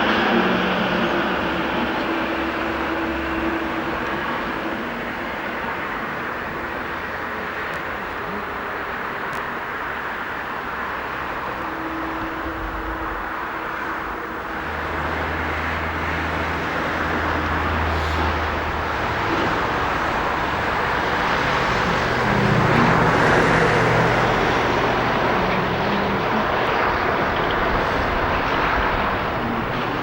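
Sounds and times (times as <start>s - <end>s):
diesel train engine: 0.0s - 30.0s.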